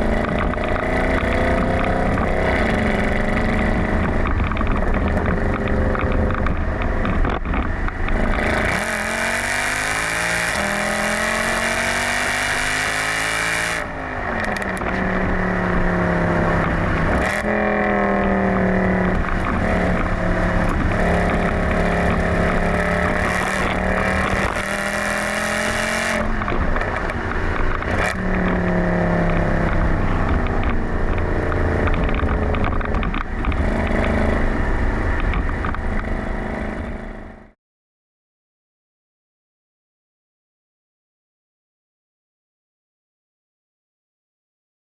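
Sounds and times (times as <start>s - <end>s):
car engine accelerating through gears: 0.0s - 37.5s.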